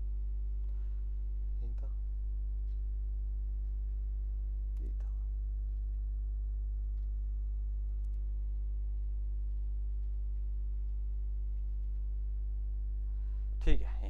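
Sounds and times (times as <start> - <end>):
low electrical mains hum: 0.0 - 14.0.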